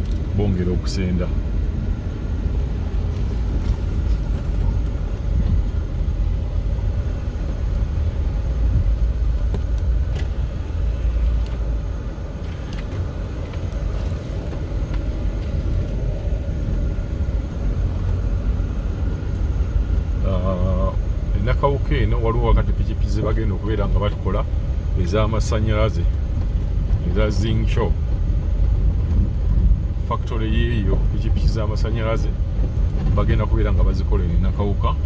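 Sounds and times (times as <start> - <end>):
vehicle engine and tyres rumbling: 0.0 - 35.0.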